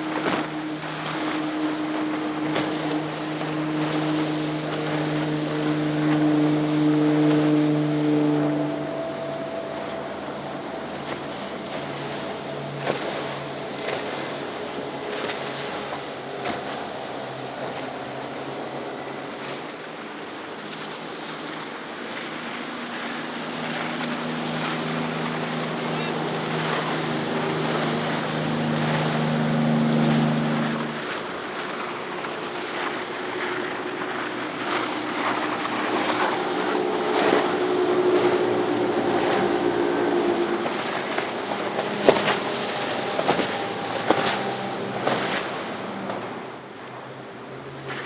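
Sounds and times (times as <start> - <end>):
higher-pitched boat engine: 0.0 - 48.0
motorboat engine drone: 0.0 - 48.0
waves and wake washing: 0.0 - 48.0.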